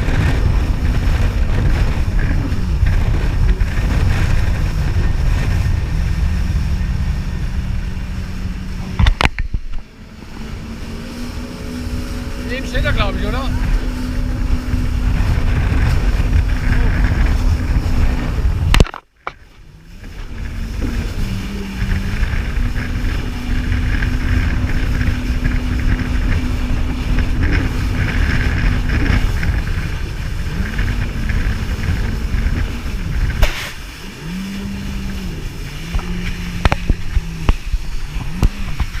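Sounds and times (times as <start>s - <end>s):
jet ski engine: 0.0s - 39.0s.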